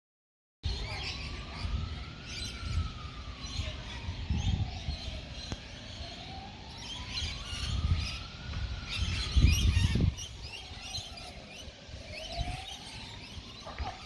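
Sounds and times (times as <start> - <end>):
birds chirping: 0.6 - 14.0
siren wailing: 0.7 - 14.0.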